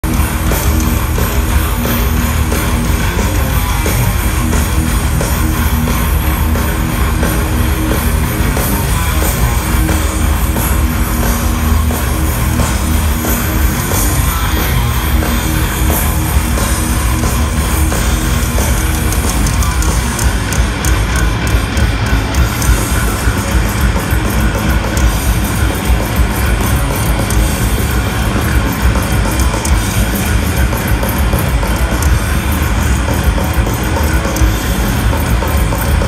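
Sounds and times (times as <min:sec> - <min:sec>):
heavy metal band playing live: 0:00.0 - 0:36.0.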